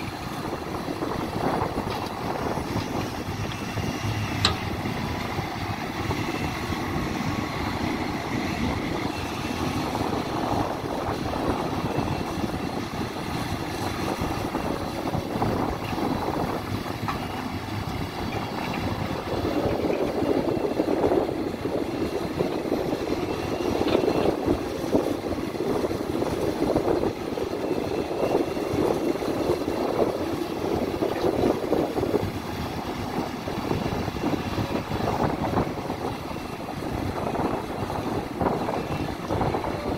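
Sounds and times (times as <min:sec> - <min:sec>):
excavator diesel engine running: 0:00.0 - 0:39.9
hydraulics working: 0:00.0 - 0:39.9.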